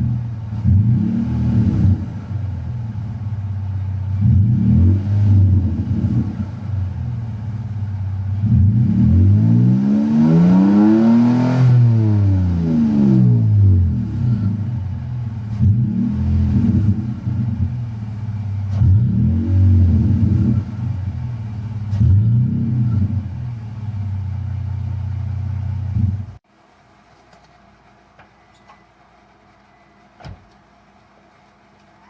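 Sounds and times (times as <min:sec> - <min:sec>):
truck engine revving and idling: 0:00.0 - 0:26.4.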